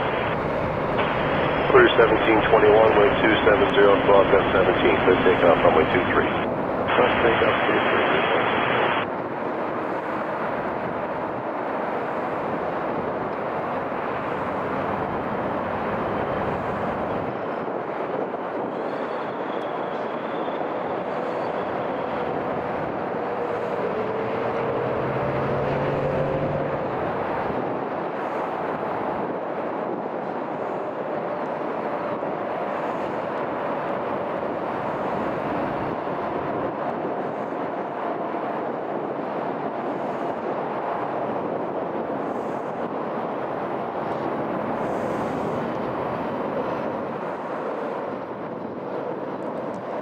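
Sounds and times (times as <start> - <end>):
jet engines at takeoff: 0.0 - 50.0.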